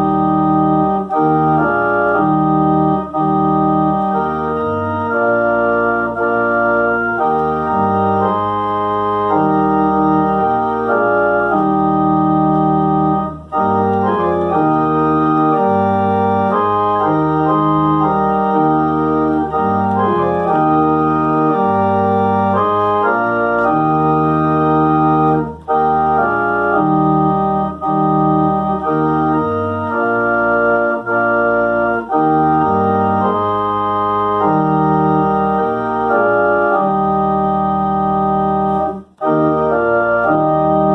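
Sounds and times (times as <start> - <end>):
organ playing slow chords: 0.0 - 40.9.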